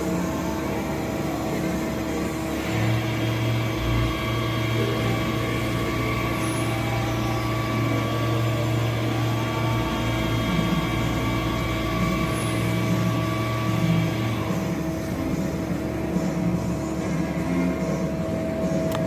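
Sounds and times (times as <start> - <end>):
lathe machine hum: 0.0 - 19.0.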